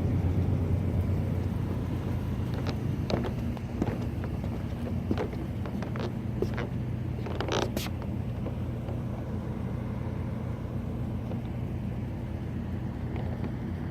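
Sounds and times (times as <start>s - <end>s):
hvac units humming: 0.0s - 13.9s.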